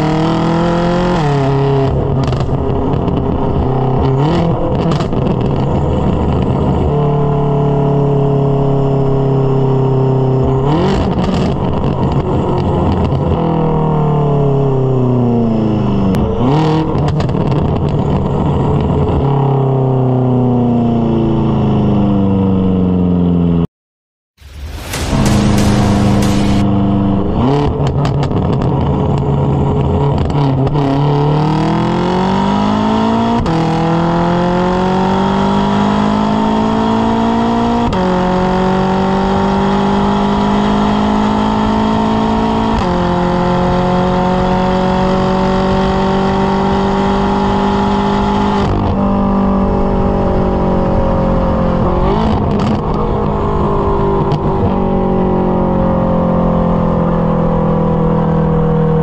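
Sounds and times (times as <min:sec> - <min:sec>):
car exhaust under hard acceleration: 0:00.0 - 0:23.6, 0:24.4 - 0:59.0.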